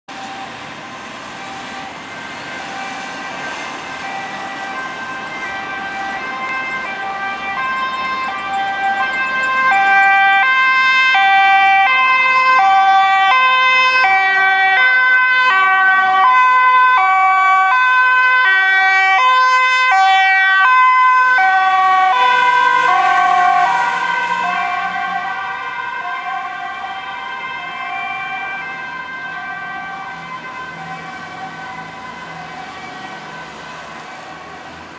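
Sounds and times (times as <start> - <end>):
two-tone ambulance siren: 0.1 - 34.9.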